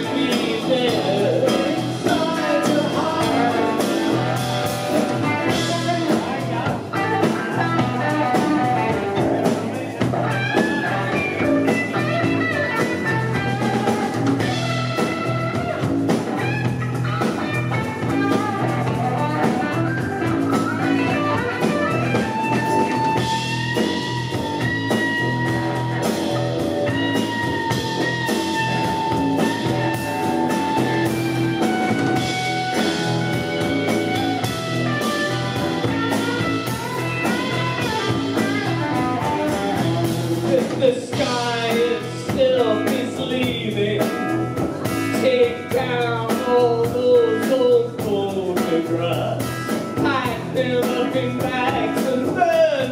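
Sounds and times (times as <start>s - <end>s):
bass guitar: 0.0s - 52.9s
drum kit: 0.0s - 52.9s
electric guitar: 0.0s - 52.9s.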